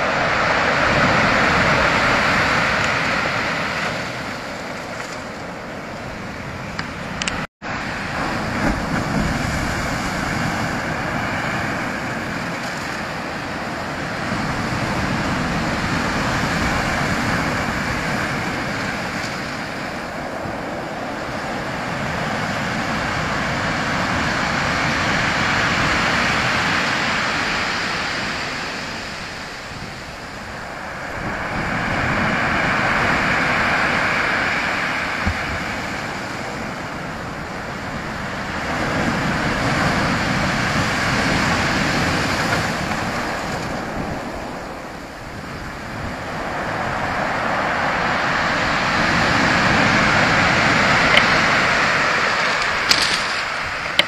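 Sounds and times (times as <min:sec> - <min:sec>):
surf washing up shingle beach: 0:00.0 - 0:54.0.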